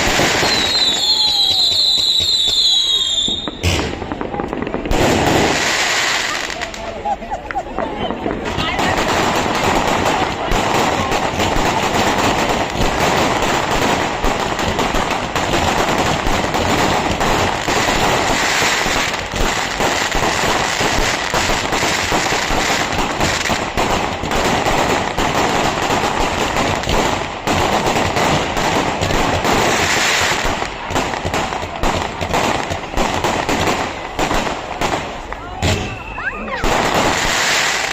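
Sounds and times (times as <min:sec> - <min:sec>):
fireworks crackling bangs: 0:00.0 - 0:37.9.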